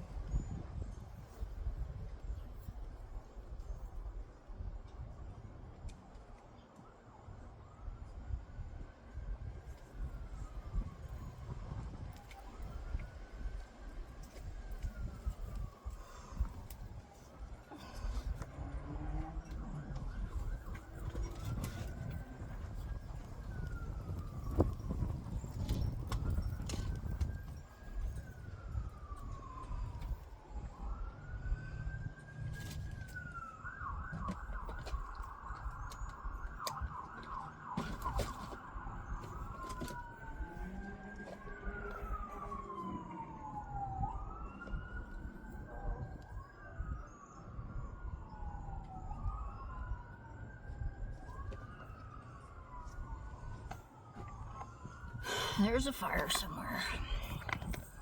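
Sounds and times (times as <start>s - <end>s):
emergency siren wailing and yelping: 9.4s - 58.0s.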